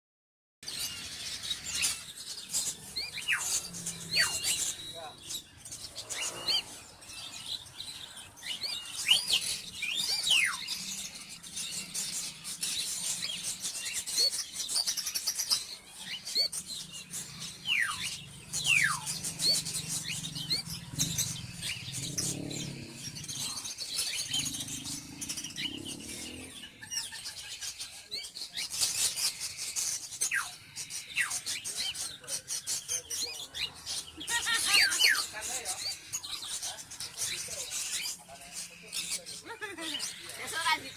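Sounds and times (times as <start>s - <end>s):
chicks chirping: 0.6s - 40.9s.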